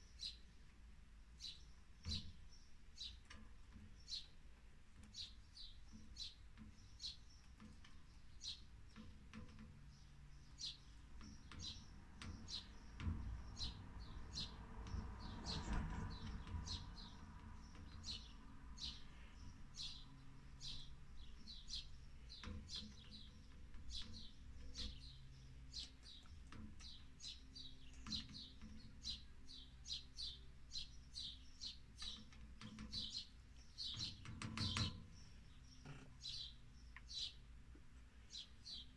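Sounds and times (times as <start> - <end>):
small bird chirping: 1.4 - 38.9.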